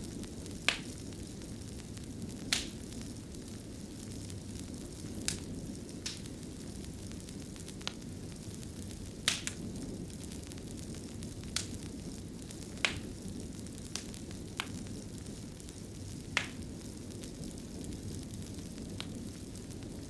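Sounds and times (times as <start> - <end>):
fire crackles and pops: 0.0 - 20.0
fire flame noise: 0.0 - 20.0.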